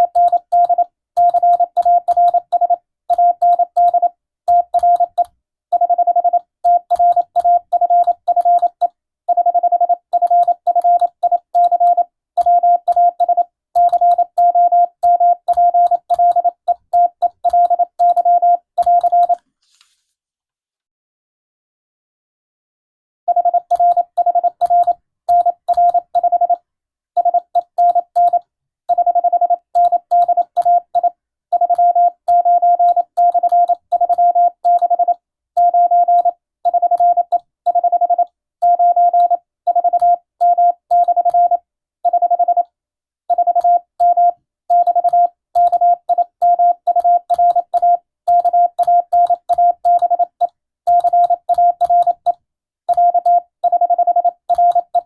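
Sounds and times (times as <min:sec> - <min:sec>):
morse code beeps: 0:00.0 - 0:19.4, 0:23.3 - 0:26.6, 0:27.2 - 0:42.6, 0:43.3 - 0:55.0.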